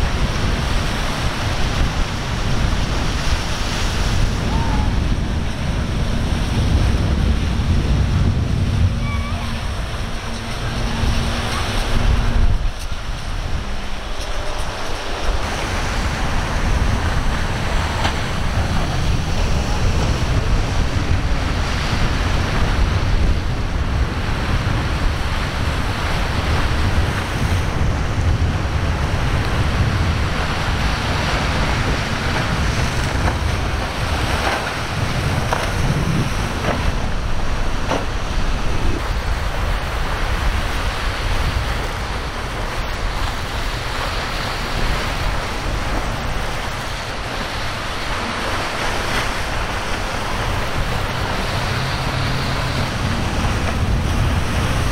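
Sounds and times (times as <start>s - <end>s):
breaking surf: 0.0s - 54.9s
wind buffeting microphone: 0.0s - 54.9s.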